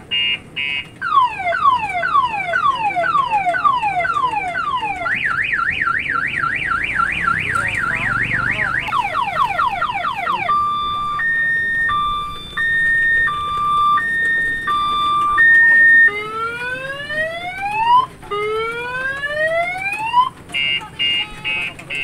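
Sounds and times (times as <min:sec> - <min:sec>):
electronic multi-tone siren: 0:00.2 - 0:22.0.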